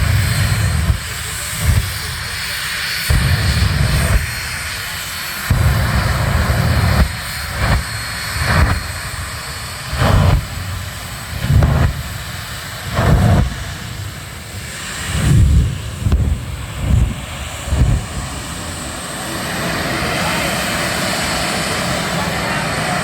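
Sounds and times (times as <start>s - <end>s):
airplane engine droning: 0.0s - 23.0s.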